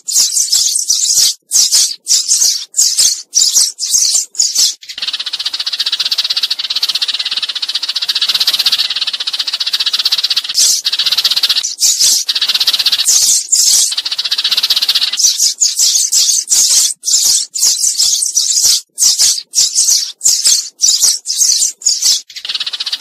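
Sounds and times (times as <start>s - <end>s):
fast sparrow chatter: 0.0s - 23.0s
sparrow chirps: 0.0s - 23.0s.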